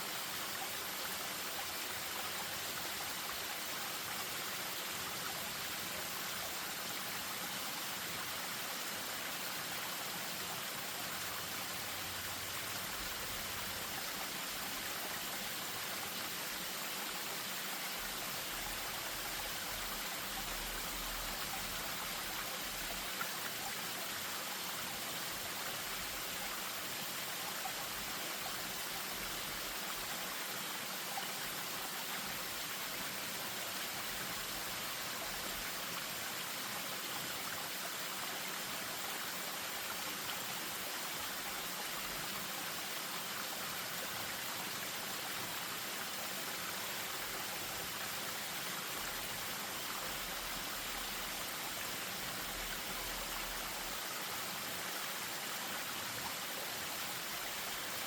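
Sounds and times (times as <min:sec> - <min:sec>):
stream over small waterfall: 0:00.0 - 0:58.0.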